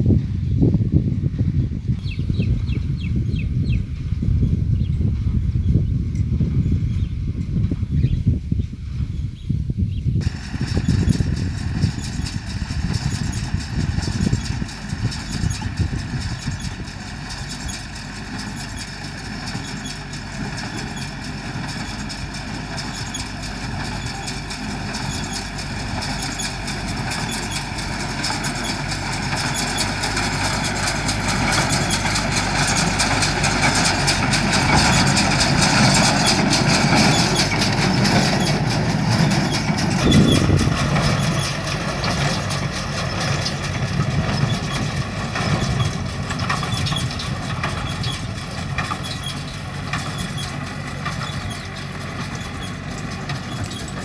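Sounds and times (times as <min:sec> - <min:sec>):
tractor diesel engine: 0:10.2 - 0:54.0.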